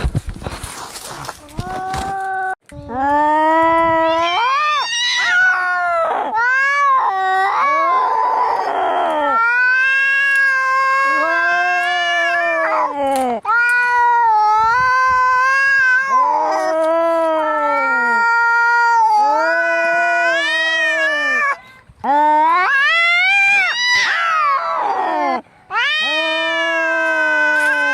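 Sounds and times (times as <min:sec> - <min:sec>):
cats yowling: 0:04.0 - 0:21.6, 0:22.2 - 0:27.9.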